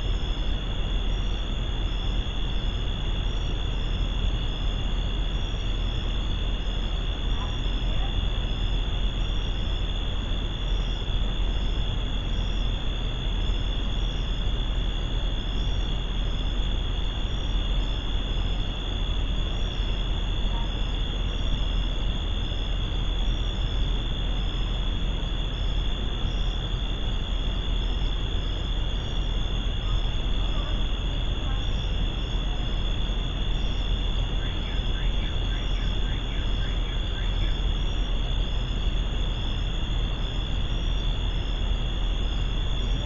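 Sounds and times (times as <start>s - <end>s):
constant hiss: 0.0s - 43.0s
crickets chirping: 0.0s - 43.0s.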